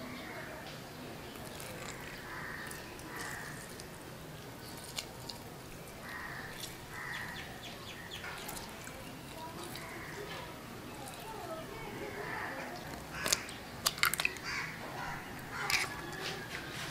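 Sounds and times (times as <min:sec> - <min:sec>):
rasping on raw chicken: 0:01.3 - 0:11.4, 0:12.2 - 0:16.9
seasoning ticks: 0:01.3 - 0:11.4, 0:12.6 - 0:16.3.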